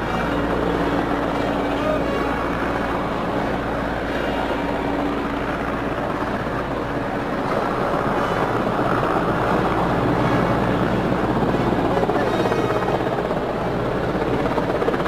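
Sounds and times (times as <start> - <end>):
helicopter rotor and engine: 0.0 - 15.0.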